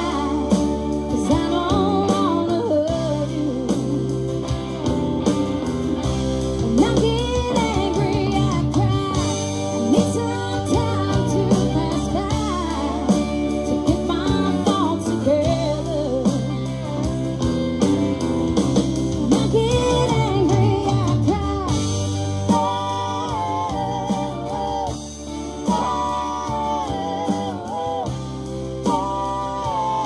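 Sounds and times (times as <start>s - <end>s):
woman singing: 0.0s - 4.6s, 6.6s - 16.5s, 19.2s - 28.2s, 28.8s - 30.0s
acoustic guitar: 0.0s - 30.0s
drum kit: 0.0s - 30.0s
electric guitar: 0.0s - 30.0s.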